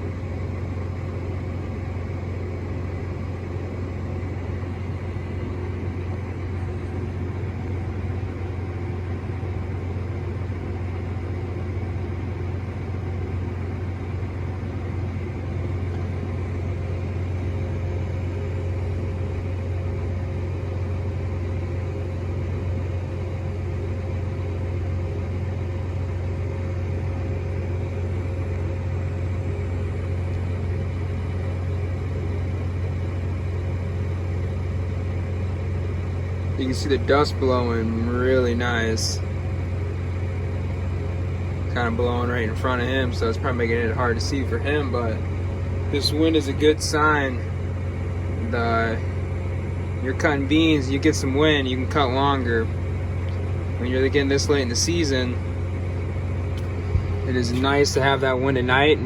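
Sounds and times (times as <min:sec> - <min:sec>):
faint steady whine: 0:00.0 - 0:59.0
tractor engine droning: 0:00.0 - 0:59.0.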